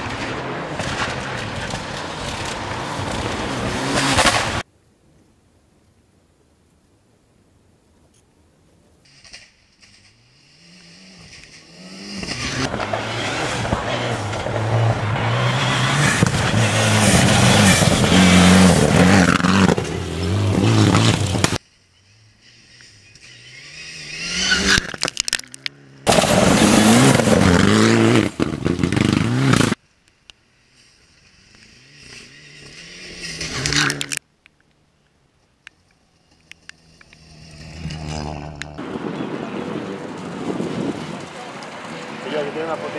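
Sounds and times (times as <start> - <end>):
rally car engines revving: 0.0 - 4.6, 9.1 - 21.6, 22.4 - 29.8, 30.7 - 34.2, 36.1 - 42.9.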